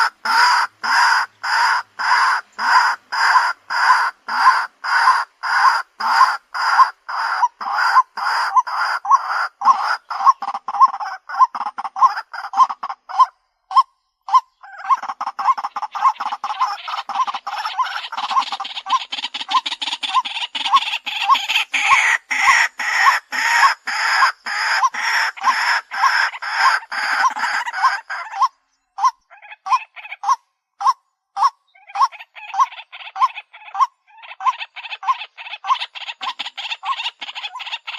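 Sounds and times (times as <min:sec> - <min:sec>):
waterhen calling: 0:00.0 - 0:37.9.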